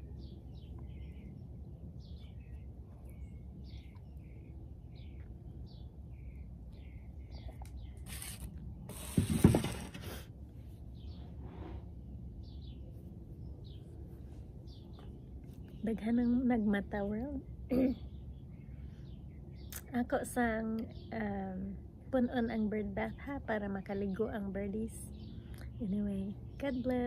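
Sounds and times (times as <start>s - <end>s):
small birds chirping: 0.0s - 10.1s, 10.7s - 27.0s.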